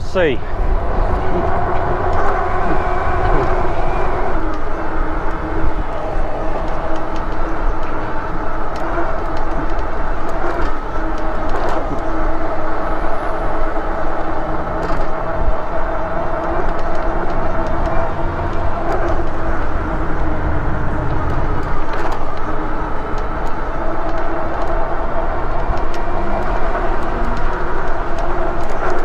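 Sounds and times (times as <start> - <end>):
low rumble: 0.0 - 9.3, 12.1 - 28.4
electric bike hum: 0.0 - 29.0.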